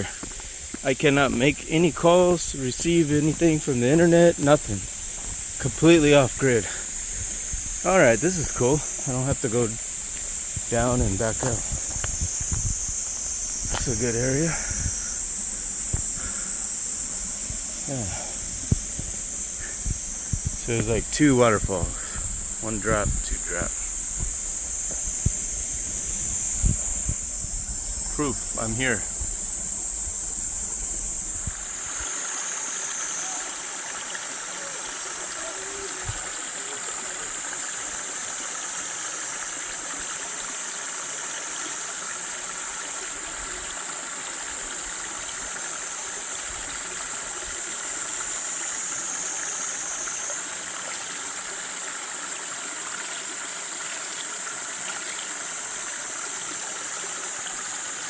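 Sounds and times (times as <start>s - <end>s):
waterfall rushing over rocks: 0.0s - 29.4s, 30.8s - 58.0s
high-pitched insect drone: 0.0s - 58.0s.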